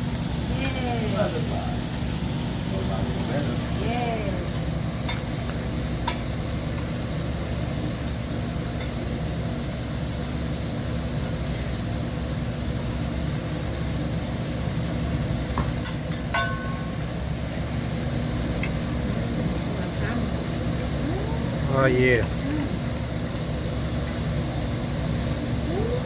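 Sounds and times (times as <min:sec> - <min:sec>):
food sizzling on griddle: 0:00.0 - 0:26.0.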